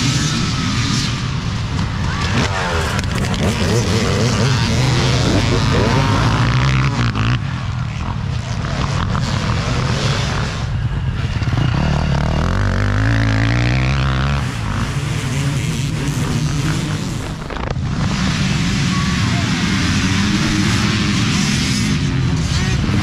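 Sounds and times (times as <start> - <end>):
dirt bike engines revving: 0.0 - 23.0
motorcycle passing close: 0.0 - 23.0.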